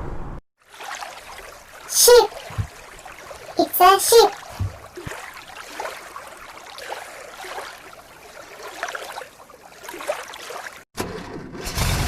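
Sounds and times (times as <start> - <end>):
water sloshing and splashing: 0.6 - 10.9.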